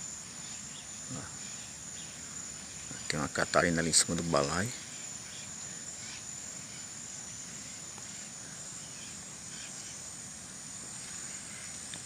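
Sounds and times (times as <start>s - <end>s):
insects chirring: 0.0s - 12.0s
soft background hiss: 0.0s - 12.0s.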